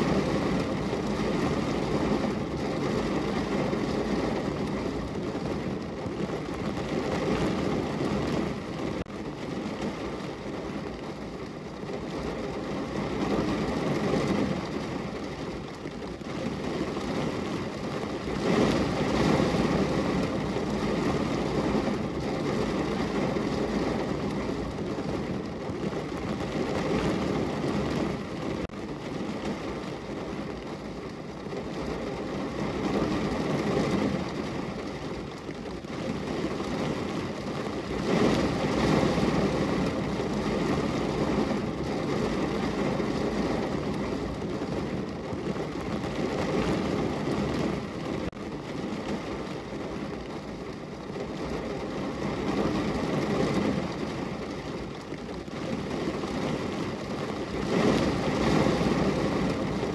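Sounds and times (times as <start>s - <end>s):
rain against a window: 0.0s - 59.9s.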